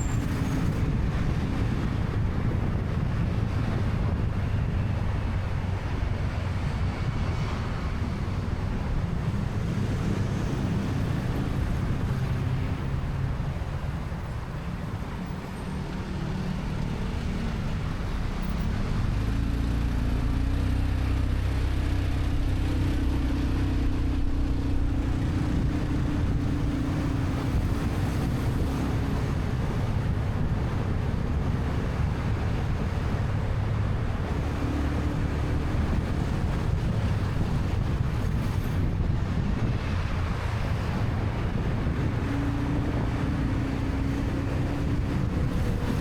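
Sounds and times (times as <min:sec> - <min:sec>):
low engine hum: 0:00.0 - 0:46.0
wind on microphone: 0:00.0 - 0:46.0.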